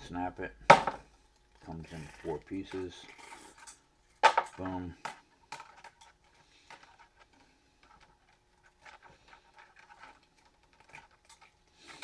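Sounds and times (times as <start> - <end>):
faint clicks and light knocks: 0.0 - 12.0.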